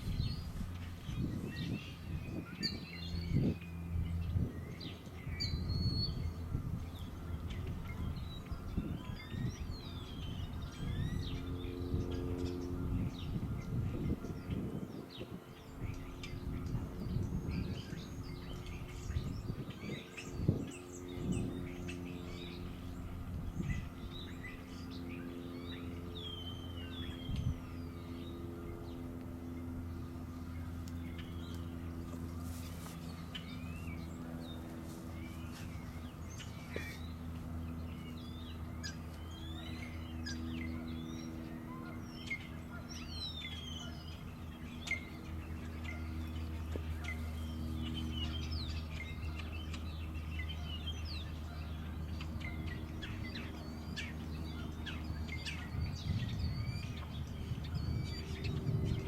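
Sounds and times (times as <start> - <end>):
songbirds chirping: 0.0 - 59.0
steady low hum: 0.0 - 59.0.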